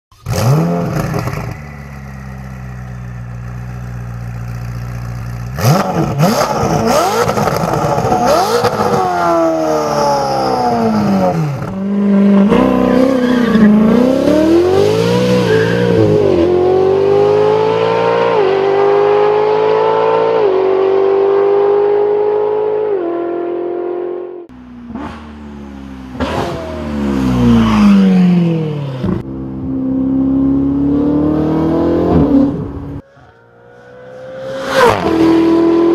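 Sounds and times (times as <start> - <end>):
car engine revving and accelerating: 0.2 - 1.6, 5.5 - 33.0, 33.6 - 35.9.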